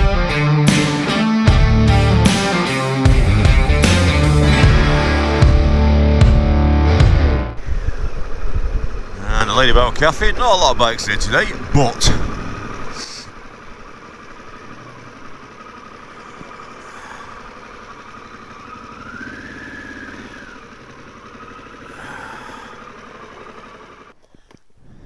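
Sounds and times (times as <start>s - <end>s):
motorcycle engine idling: 0.0s - 6.4s, 7.6s - 24.7s.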